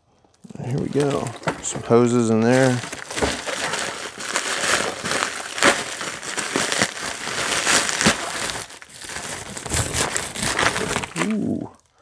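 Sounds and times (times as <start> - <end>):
packaging crinkling and rustling: 0.2 - 12.0.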